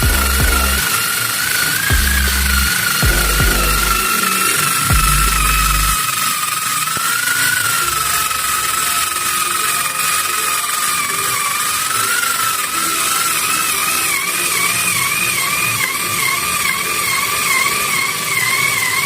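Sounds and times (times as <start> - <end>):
electric screwdriver motor whining: 0.0 - 19.0.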